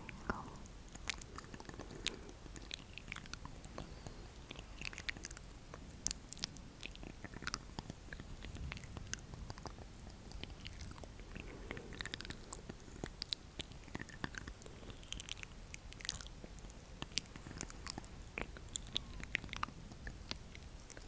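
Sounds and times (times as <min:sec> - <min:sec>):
mouth clicks and pops: 0:00.0 - 0:21.0.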